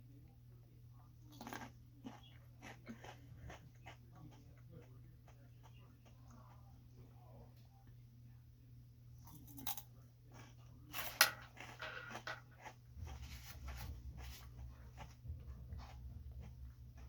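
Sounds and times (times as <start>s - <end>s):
crunching and chewing: 1.1s - 7.1s, 9.2s - 17.0s.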